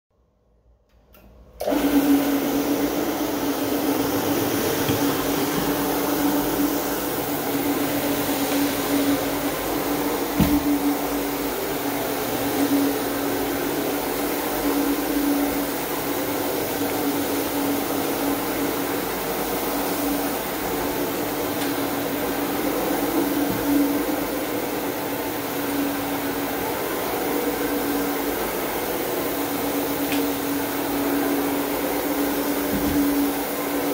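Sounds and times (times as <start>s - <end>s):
carpet brush machine running: 1.6s - 33.9s.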